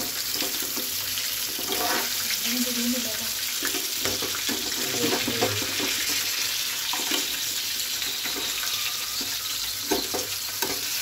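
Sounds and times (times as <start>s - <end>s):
crabs deep-frying in hot oil: 0.0s - 11.0s.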